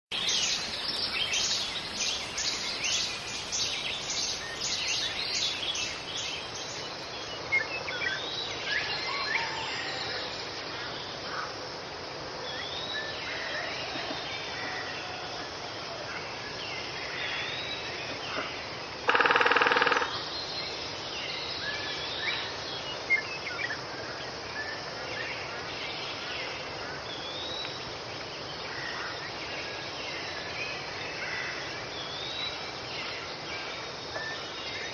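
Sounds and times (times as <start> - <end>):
steady background hiss: 0.1 - 34.9.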